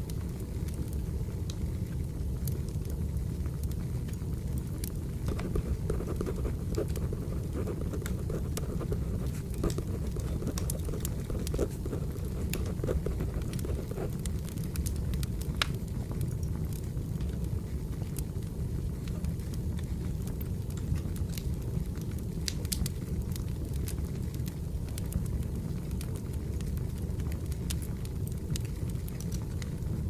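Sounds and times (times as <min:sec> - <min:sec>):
firewood crackling and popping: 0:00.0 - 0:30.0.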